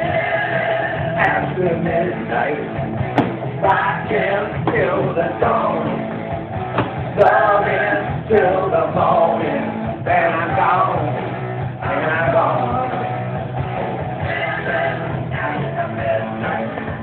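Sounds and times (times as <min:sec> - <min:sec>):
heavy metal song: 0:00.0 - 0:17.0.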